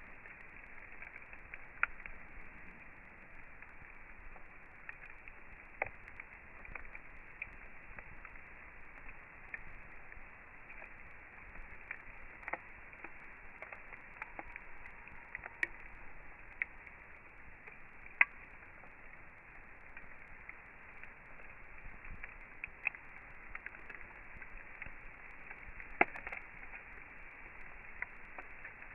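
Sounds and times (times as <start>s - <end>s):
campfire crackling: 0.0s - 28.9s.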